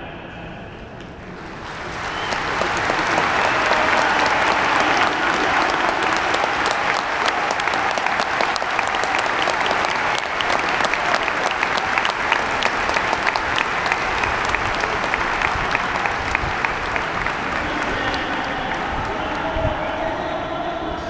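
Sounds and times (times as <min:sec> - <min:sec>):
crowd applauding: 0:01.2 - 0:20.4.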